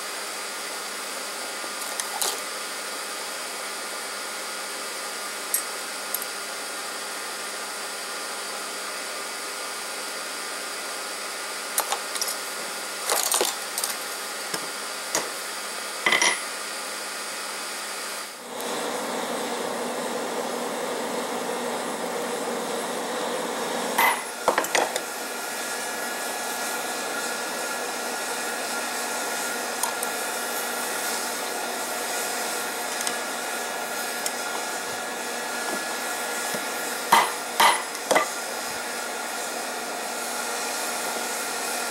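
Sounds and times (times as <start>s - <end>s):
forge air blower running: 0.0s - 41.9s.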